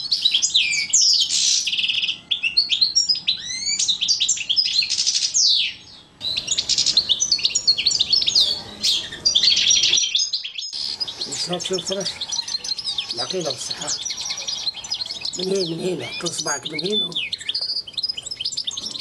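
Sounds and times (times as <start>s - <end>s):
goldfinch singing: 0.0s - 19.0s.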